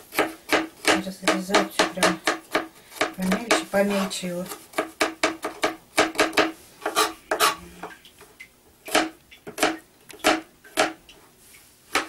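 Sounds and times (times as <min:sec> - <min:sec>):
knife chopping on cutting board: 0:00.0 - 0:07.6, 0:08.9 - 0:11.0.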